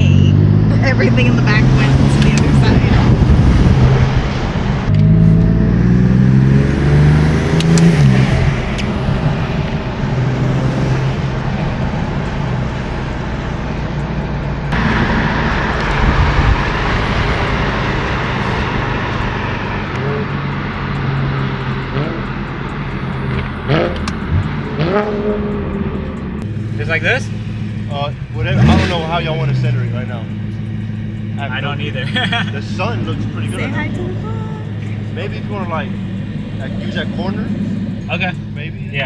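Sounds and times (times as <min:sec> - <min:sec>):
car engine accelerating: 0:00.0 - 0:39.0
road noise: 0:00.0 - 0:39.0.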